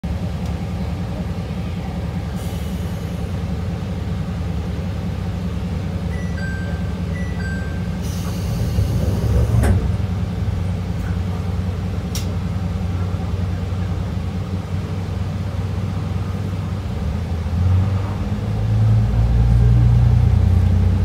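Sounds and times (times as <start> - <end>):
train engine rumble: 0.0 - 21.0.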